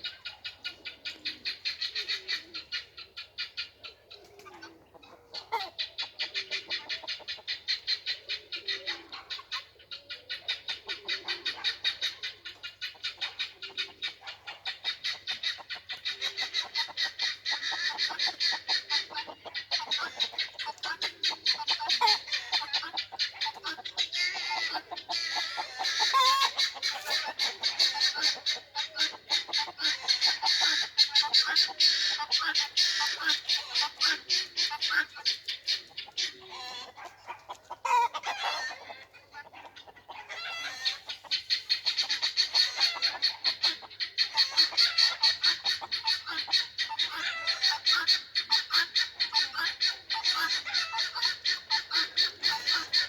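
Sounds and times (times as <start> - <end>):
chickens clucking: 0.0 - 53.0
guinea fowl harsh calls: 0.0 - 53.0.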